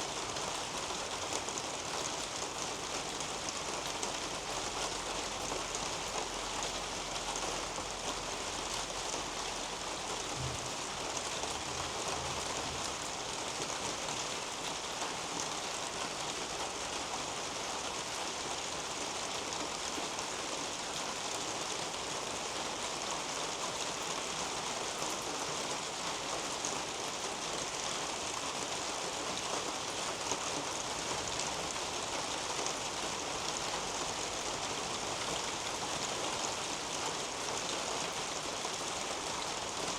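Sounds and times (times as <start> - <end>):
rain pattering on leaves and roof: 0.0 - 39.9.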